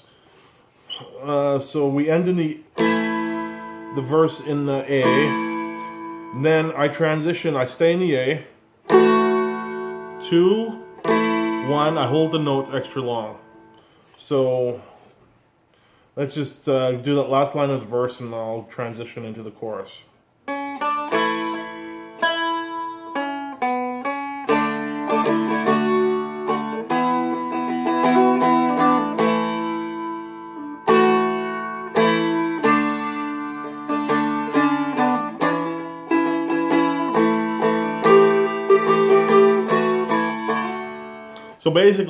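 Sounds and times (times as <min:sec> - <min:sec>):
dulcimer strummed and picked: 0:01.2 - 0:13.8, 0:20.5 - 0:42.0.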